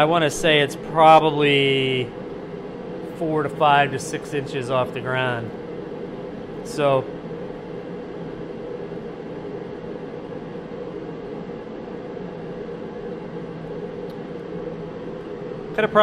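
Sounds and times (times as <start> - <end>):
heater fan and burner roar: 0.0 - 16.0
low hum: 0.0 - 16.0.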